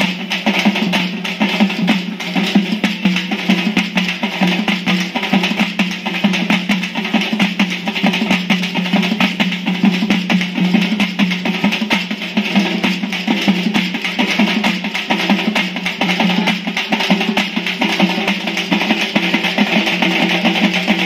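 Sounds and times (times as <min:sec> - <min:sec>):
frame drums beaten fast: 0:00.0 - 0:21.0.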